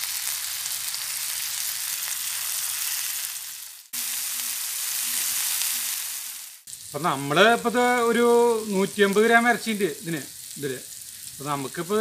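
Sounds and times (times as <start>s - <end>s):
steaks sizzling in oil: 0.0s - 12.0s.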